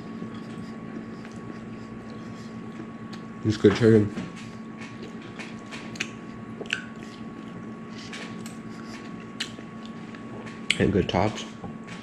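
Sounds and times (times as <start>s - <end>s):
soft crunches of chewing: 0.0s - 10.9s
steady low hum: 0.0s - 12.0s.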